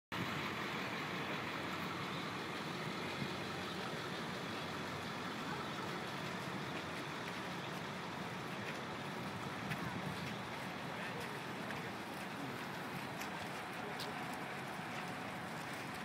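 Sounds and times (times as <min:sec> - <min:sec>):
city street rumble and hiss: 0:00.1 - 0:16.0.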